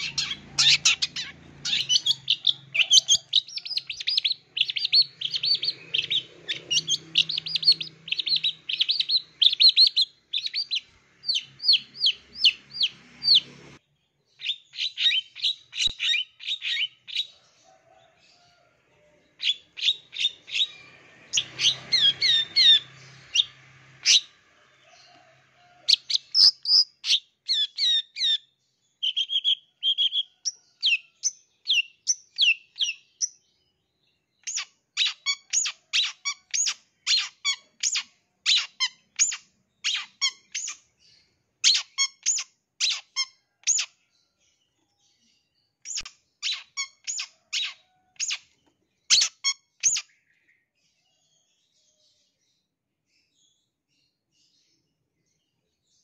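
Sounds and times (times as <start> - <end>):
bird chirps and trills: 0.0 - 17.4, 19.2 - 33.4, 34.2 - 44.1, 44.7 - 50.7.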